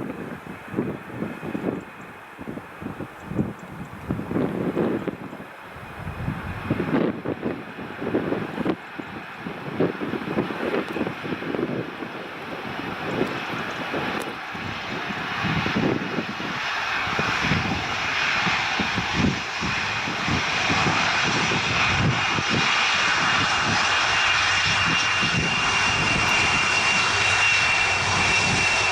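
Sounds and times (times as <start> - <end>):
jet engines whining: 0.1 - 28.9.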